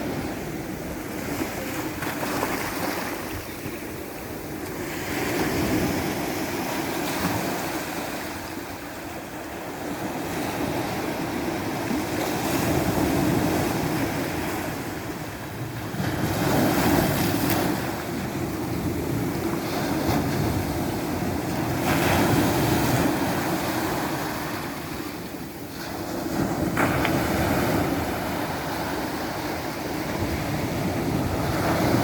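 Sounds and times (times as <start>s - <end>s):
ocean waves breaking on shore: 0.0s - 32.0s
wind on microphone: 0.0s - 32.0s.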